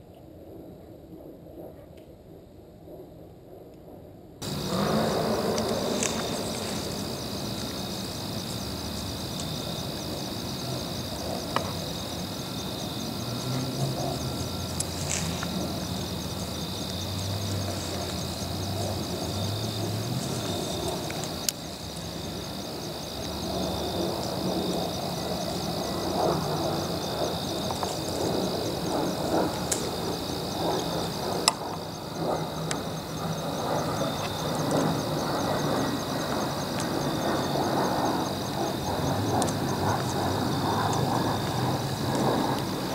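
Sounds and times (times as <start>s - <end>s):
low distant hum: 0.4s - 42.9s
insects trilling: 4.4s - 42.9s.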